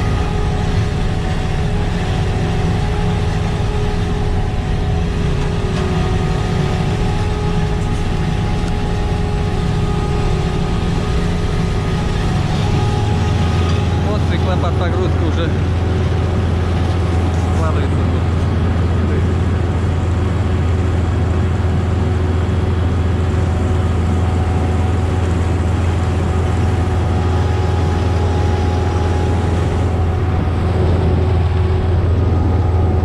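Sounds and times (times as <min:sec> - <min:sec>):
diesel engine drone: 0:00.0 - 0:33.0
steady whining tones: 0:00.0 - 0:33.0.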